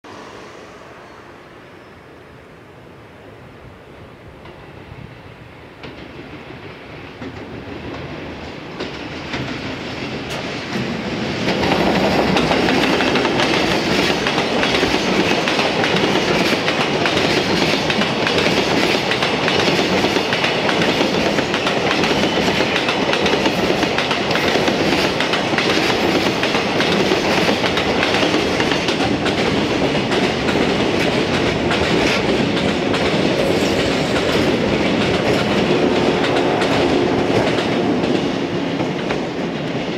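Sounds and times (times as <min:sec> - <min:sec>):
electric train passing: 0:00.0 - 0:39.9
freight train passing: 0:00.0 - 0:39.9
wheels clacking over rail joints: 0:05.8 - 0:39.9.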